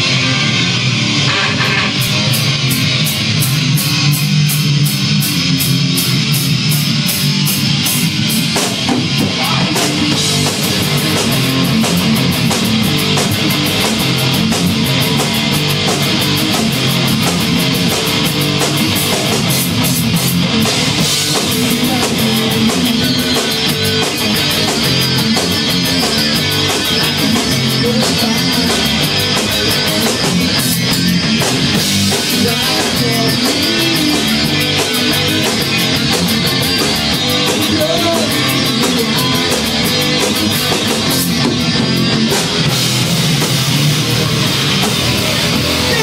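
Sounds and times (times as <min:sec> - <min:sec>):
bass guitar: 0:00.0 - 0:46.0
drum kit: 0:00.0 - 0:46.0
electric guitars: 0:00.0 - 0:46.0.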